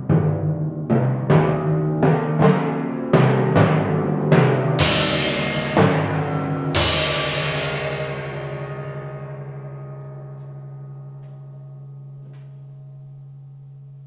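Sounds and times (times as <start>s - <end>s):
timpani stroke ringing: 1.3s - 12.8s.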